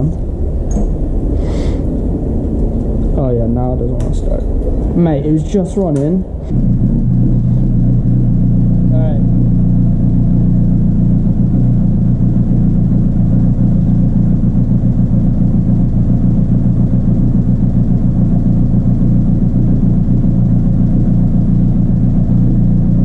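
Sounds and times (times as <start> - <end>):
motorcycle engine idling: 0.0 - 23.0
engine knocking: 2.7 - 23.0.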